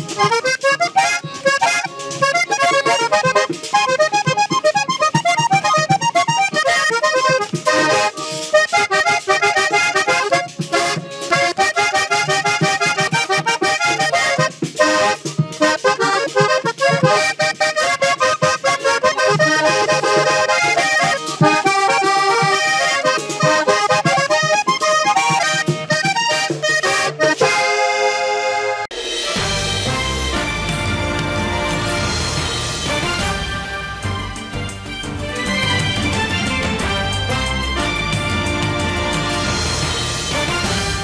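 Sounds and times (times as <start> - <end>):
hand drum beat: 0.0 - 27.6, 28.9 - 41.0
scraper percussion: 0.0 - 27.8, 28.9 - 41.0
button accordion melody: 0.0 - 41.0.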